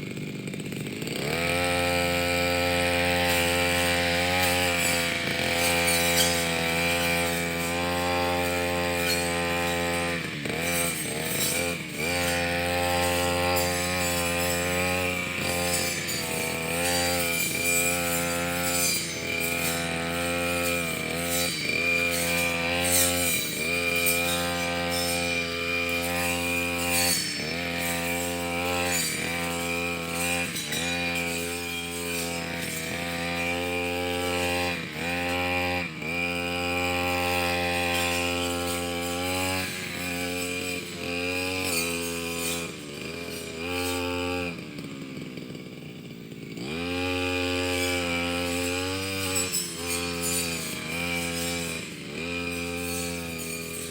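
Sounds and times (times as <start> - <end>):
brush cutter engine running: 0.0 - 53.9.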